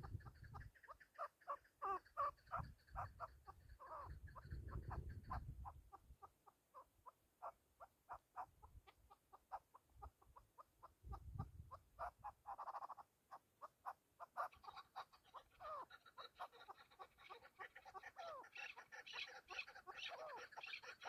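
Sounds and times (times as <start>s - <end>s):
partridge clucking calls: 0.0s - 21.0s.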